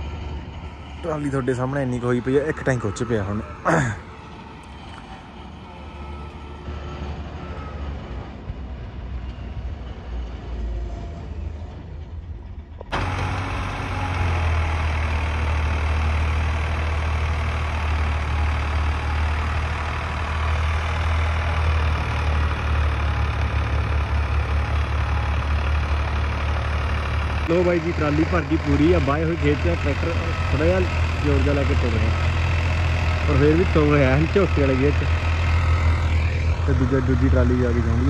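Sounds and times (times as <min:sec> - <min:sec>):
engine running quietly: 0:00.0 - 0:38.0
tractor diesel engine under load: 0:00.0 - 0:38.0.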